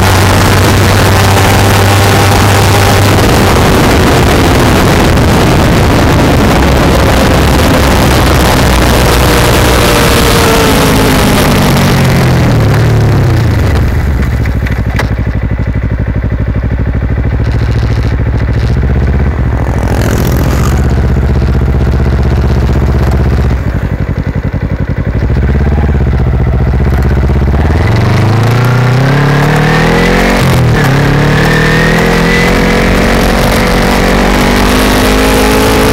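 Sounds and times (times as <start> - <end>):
motorcycle engine exhaust: 0.0 - 35.9.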